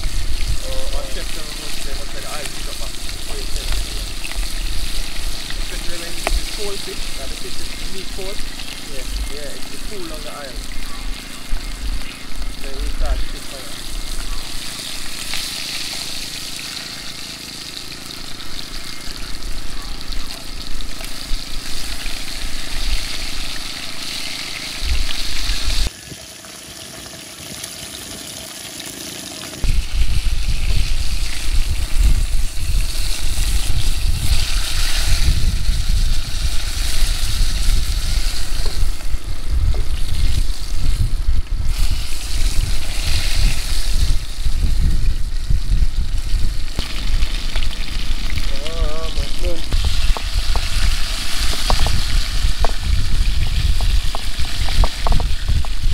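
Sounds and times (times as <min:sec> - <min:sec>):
heavy low rumble: 0:00.0 - 0:25.9, 0:29.6 - 0:55.9
fish sizzling in hot oil: 0:00.0 - 0:55.9.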